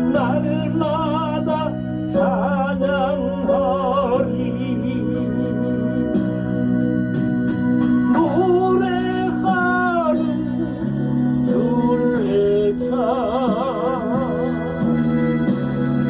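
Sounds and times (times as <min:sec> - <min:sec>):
melody with wide vibrato: 0:00.0 - 0:16.0
sustained keyboard chords: 0:00.0 - 0:16.0.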